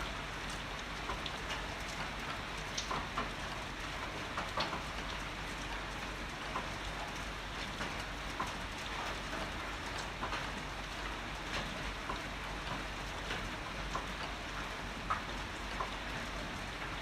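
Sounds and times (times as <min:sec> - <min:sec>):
heavy rain falling: 0:00.0 - 0:17.0
raindrops ticking on surface: 0:00.0 - 0:17.0.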